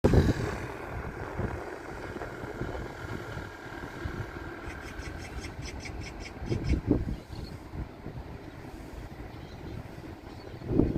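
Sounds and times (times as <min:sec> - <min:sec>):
jet engines rumbling: 0:00.0 - 0:10.9
wind buffeting microphone: 0:00.0 - 0:10.9.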